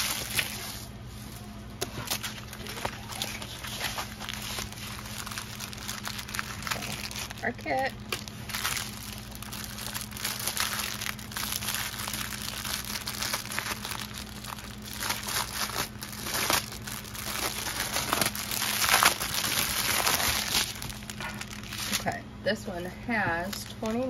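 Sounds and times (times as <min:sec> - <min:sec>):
plastic packaging crinkling: 0:00.0 - 0:22.2.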